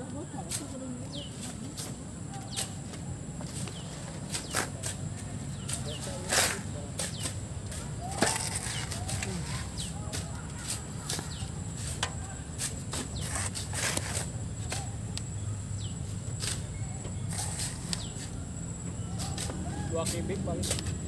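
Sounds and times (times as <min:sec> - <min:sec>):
shovels scraping into sand: 0:00.4 - 0:15.0, 0:15.8 - 0:18.4, 0:19.2 - 0:21.0.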